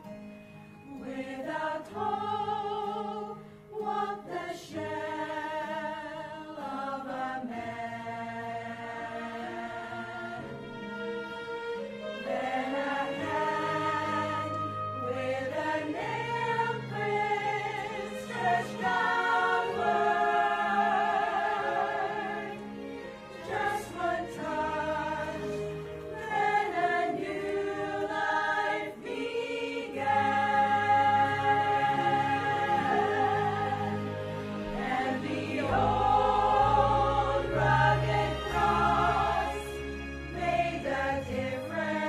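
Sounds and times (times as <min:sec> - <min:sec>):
mixed choir singing in parts: 0:00.9 - 0:11.0, 0:12.2 - 0:42.0.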